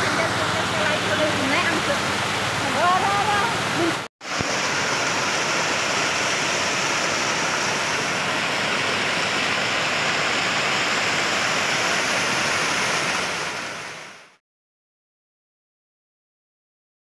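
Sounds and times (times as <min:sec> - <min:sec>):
water rushing over rocks: 0:00.0 - 0:14.4.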